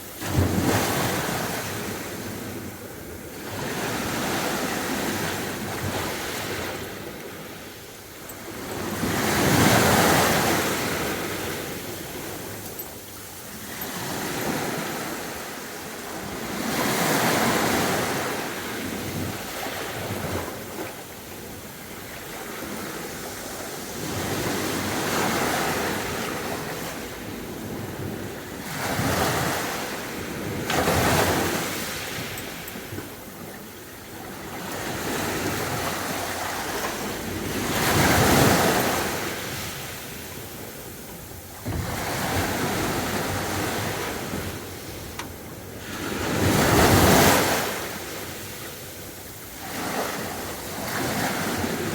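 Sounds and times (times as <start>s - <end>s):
sea waves breaking on beach: 0.0s - 51.9s.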